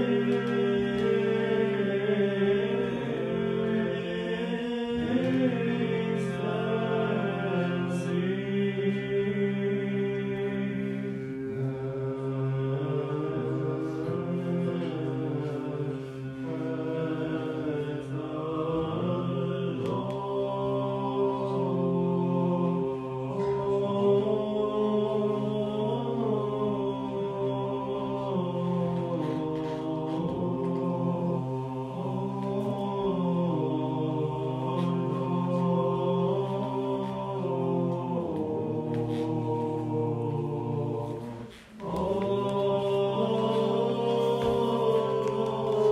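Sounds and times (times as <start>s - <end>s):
voices chanting slow melody: 0.0s - 45.9s.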